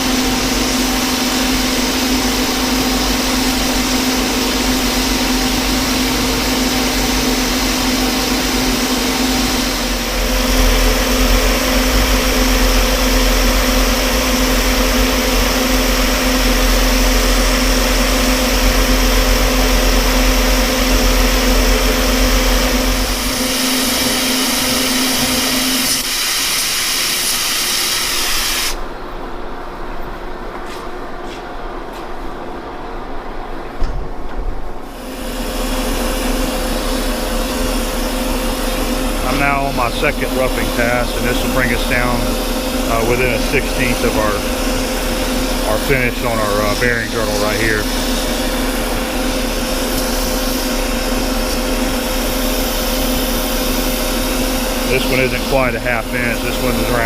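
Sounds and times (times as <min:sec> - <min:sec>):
coolant mister hiss: 0:00.0 - 0:28.8, 0:34.9 - 0:57.0
lathe motor hum: 0:00.0 - 0:28.8, 0:34.9 - 0:57.0
lathe tone: 0:00.0 - 0:28.8, 0:34.9 - 0:57.0.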